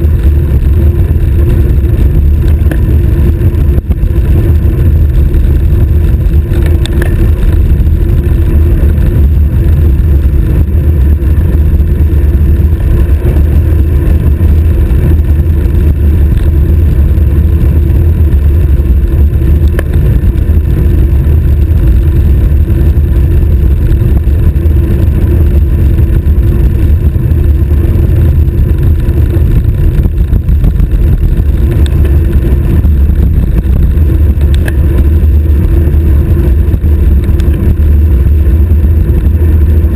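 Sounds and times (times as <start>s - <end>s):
wind buffeting camera: 0.0s - 39.9s.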